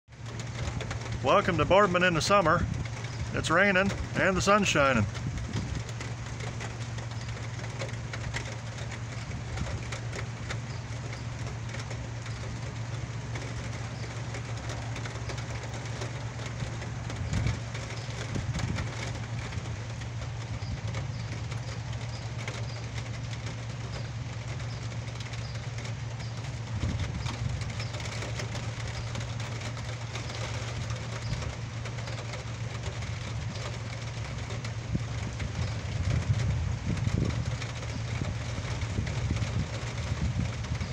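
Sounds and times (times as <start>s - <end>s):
steady rain falling: 0.1s - 40.9s.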